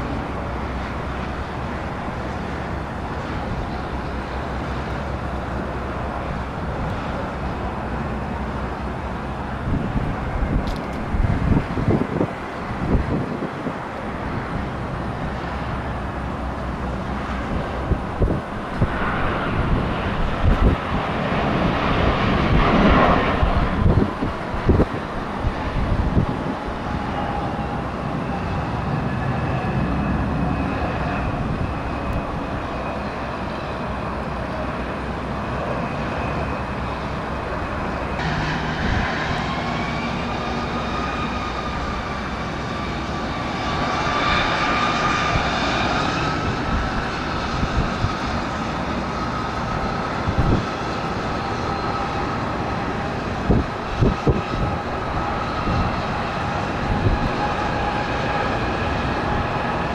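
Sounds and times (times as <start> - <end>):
jet engines with turbine whine: 0.0 - 59.9.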